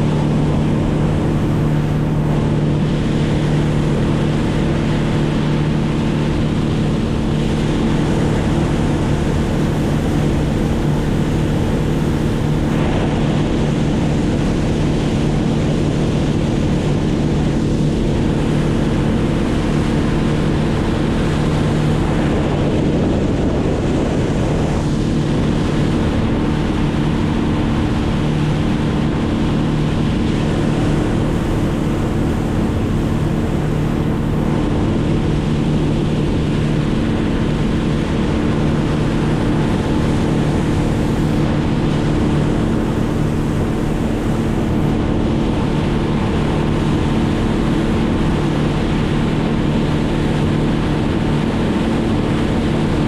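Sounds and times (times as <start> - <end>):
engine running steadily: 0.0 - 53.0
rushing wind or water noise: 0.0 - 53.0.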